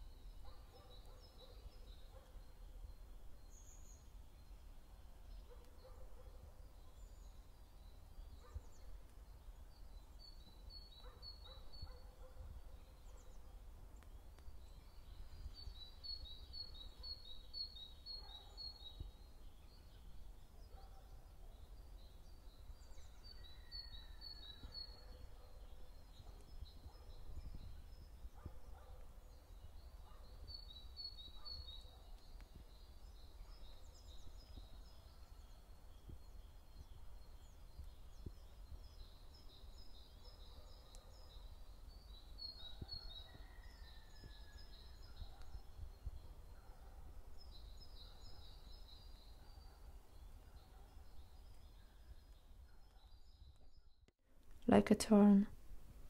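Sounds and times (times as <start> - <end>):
small songbird singing: 0.0 - 54.1.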